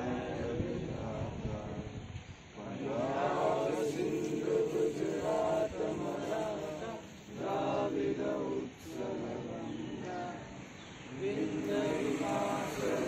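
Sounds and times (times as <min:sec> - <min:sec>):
group singing in unison: 0:00.0 - 0:13.0.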